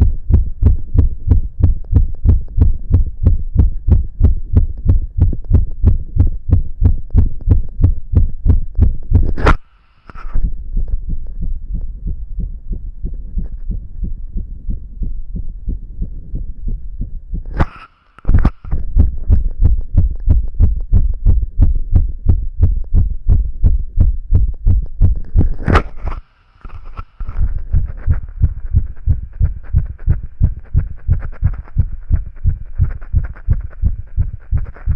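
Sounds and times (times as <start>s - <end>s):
heartbeat: 0.0s - 9.5s, 10.3s - 17.7s, 18.3s - 25.9s, 27.2s - 34.9s.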